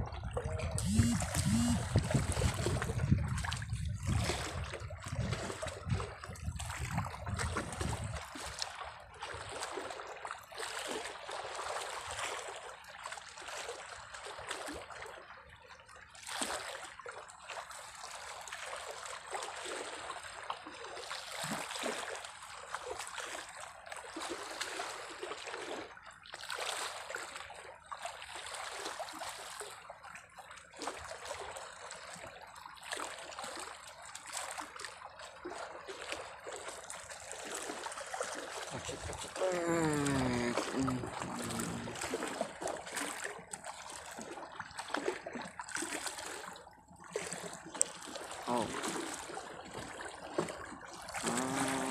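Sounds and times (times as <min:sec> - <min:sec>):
small waves lapping on rocks: 0:00.0 - 0:15.1, 0:16.3 - 0:29.8, 0:30.7 - 0:51.9.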